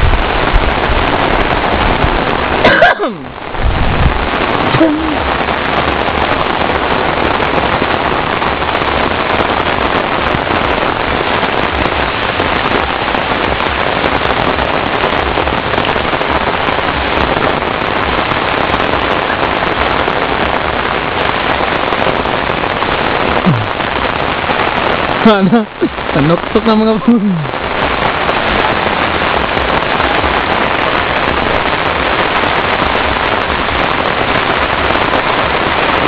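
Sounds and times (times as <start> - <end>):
heavy rain on vegetation: 0.0 - 36.0.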